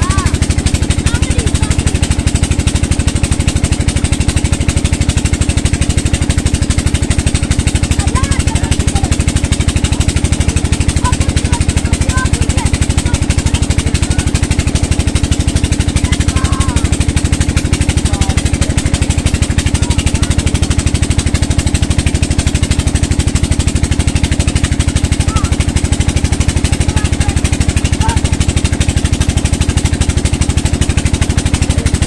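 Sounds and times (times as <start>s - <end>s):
pump engine thumping: 0.0s - 32.0s.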